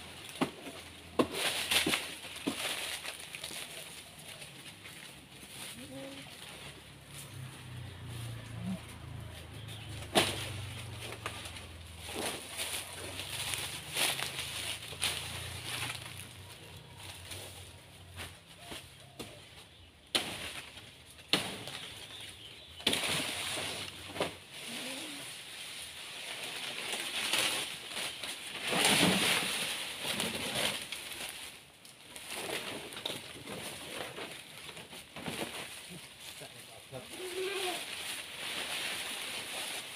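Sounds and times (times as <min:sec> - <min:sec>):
leaves rustling: 0:00.0 - 0:39.9.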